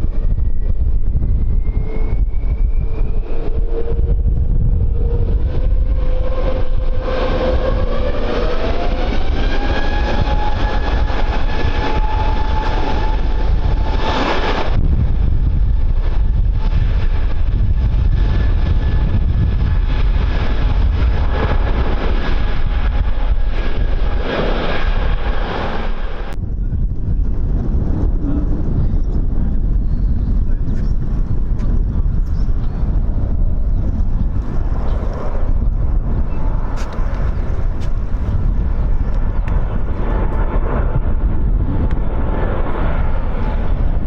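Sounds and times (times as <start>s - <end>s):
jet engines spooling up: 0.0s - 26.4s, 30.3s - 44.0s
wind buffeting microphone: 0.0s - 44.0s.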